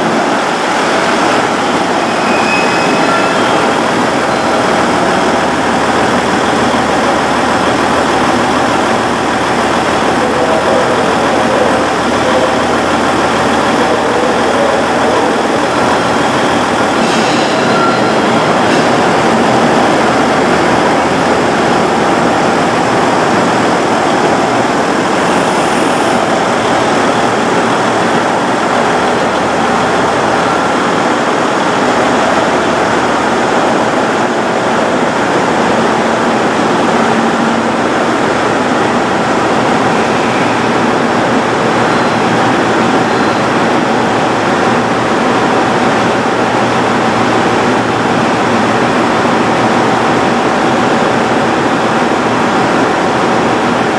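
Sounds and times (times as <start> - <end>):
diesel train engines droning: 0.0 - 53.9.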